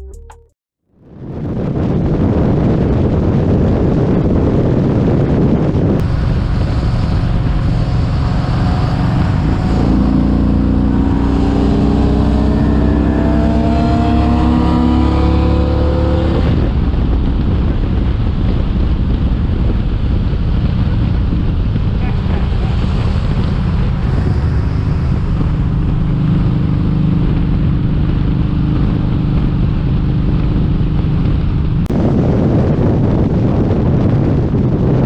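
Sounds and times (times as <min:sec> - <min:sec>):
wind buffeting microphone: 0:01.0 - 0:35.0
motorcycle engine accelerating: 0:01.2 - 0:35.0.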